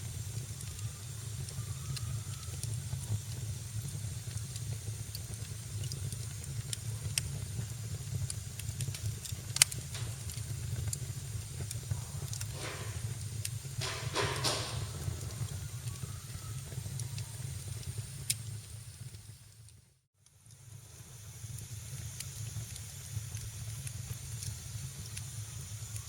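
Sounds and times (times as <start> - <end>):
fire hissing: 0.0 - 19.7, 20.3 - 26.0
low fire rumble: 0.0 - 26.0
wood fire crackling and popping: 0.0 - 26.0.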